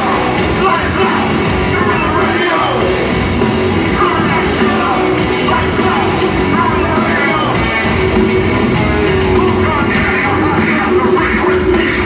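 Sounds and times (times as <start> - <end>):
full band playing: 0.0 - 12.0
loud electric guitar: 0.0 - 12.0
shouted vocals: 0.0 - 12.0.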